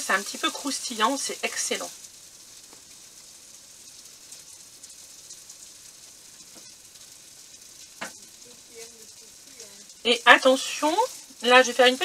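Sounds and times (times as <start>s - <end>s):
cheese sandwich sizzling in pan: 0.0s - 12.0s.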